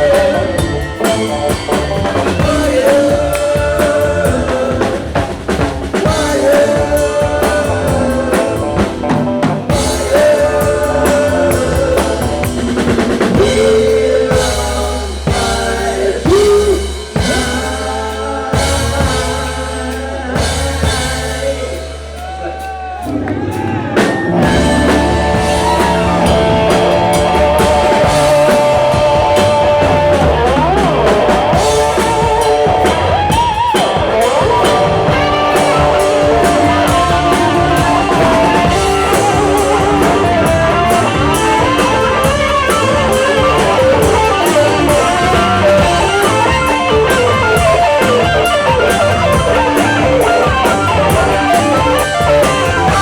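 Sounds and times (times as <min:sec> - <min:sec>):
rock music with guitar and drums: 0:00.0 - 0:53.0.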